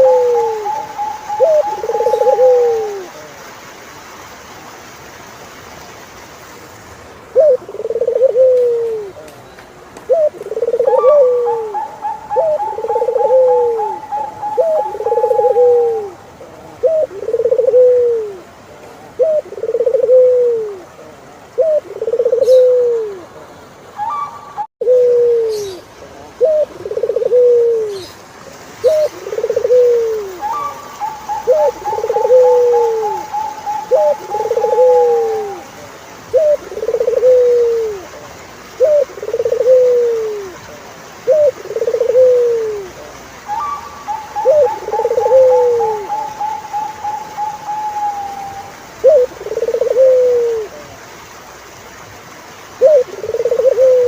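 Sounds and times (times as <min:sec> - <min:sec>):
turtle dove cooing: 0:00.0 - 0:03.3, 0:07.3 - 0:09.3, 0:10.0 - 0:28.2, 0:28.8 - 0:51.0, 0:52.7 - 0:54.0.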